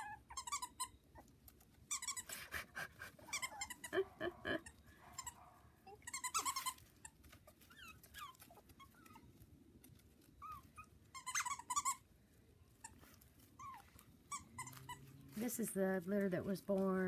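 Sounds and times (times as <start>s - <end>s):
puppies yipping and whimpering: 0.0s - 15.4s.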